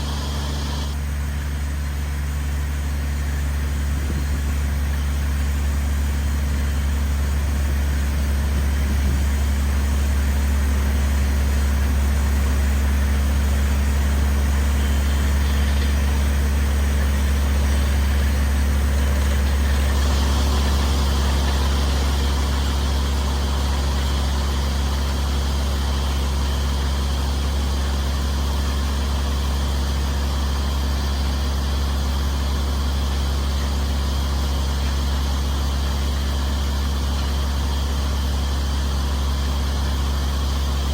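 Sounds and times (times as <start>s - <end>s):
drilling rig engine humming: 0.0s - 40.9s.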